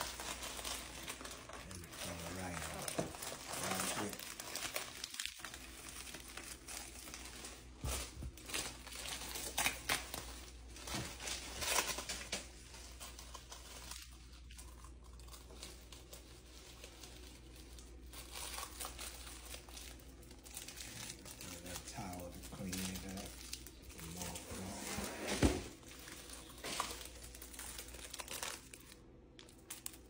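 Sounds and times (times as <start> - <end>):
plastic bag crinkling: 0.0 - 30.0.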